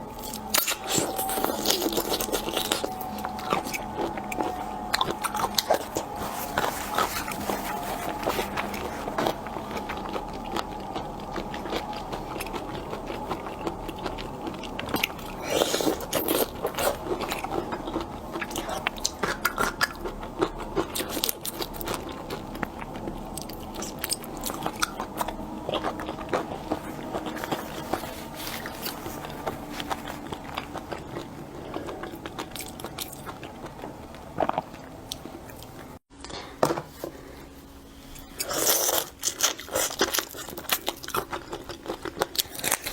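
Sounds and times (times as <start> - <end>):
person chewing shrimp: 0.0 - 42.9.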